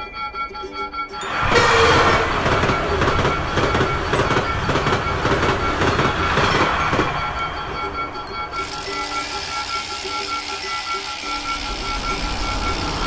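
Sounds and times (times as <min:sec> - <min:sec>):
passenger train passing: 0:01.2 - 0:13.0
train wheels clickety-clack: 0:01.3 - 0:13.0.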